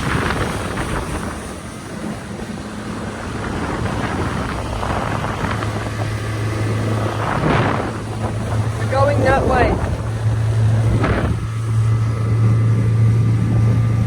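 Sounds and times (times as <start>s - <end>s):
outboard motor running: 0.0s - 14.0s
rushing water: 0.0s - 14.0s
wind: 0.0s - 14.0s.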